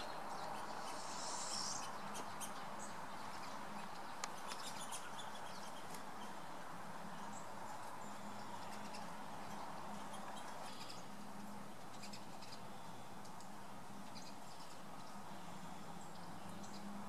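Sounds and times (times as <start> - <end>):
songbirds chirping: 0.0 - 17.0
steady background hiss: 0.0 - 17.0.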